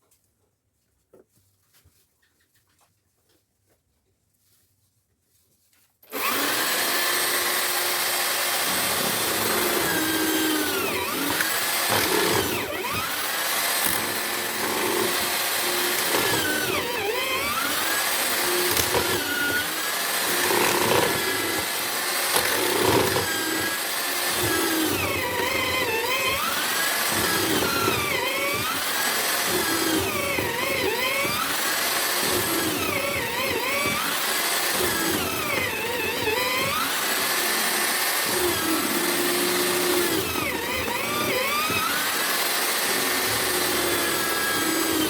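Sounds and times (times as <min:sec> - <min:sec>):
drill motor cutting wood: 0:06.0 - 0:45.0.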